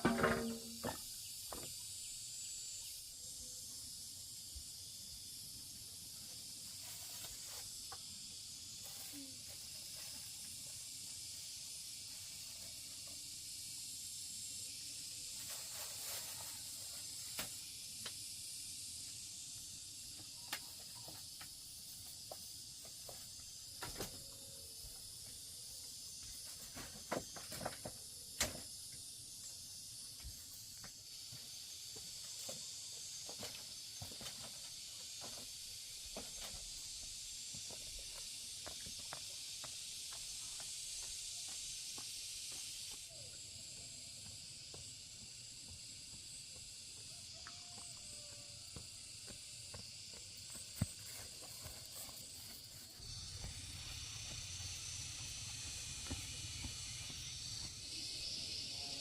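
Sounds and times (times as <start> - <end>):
high-pitched background hiss: 0.0 - 59.0.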